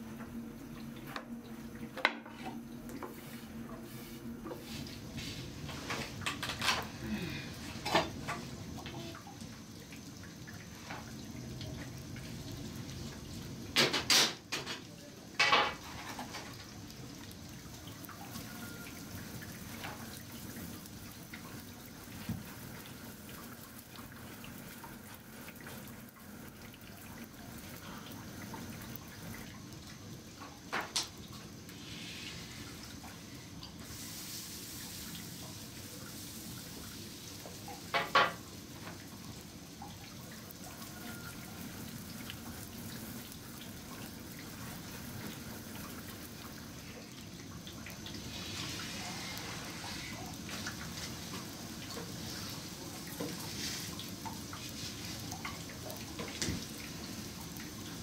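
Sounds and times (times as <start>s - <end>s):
flatbread sizzling on stove: 0.0s - 58.0s.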